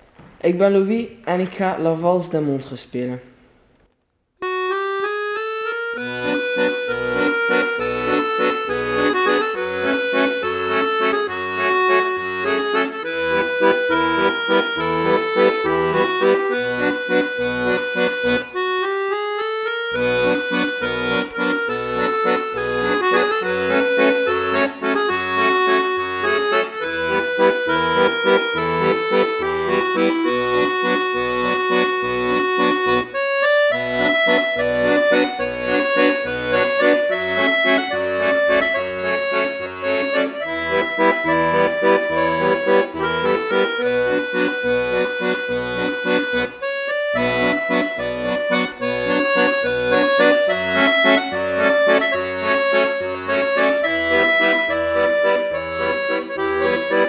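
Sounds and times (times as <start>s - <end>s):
accordion playing a waltz: 4.4s - 57.0s.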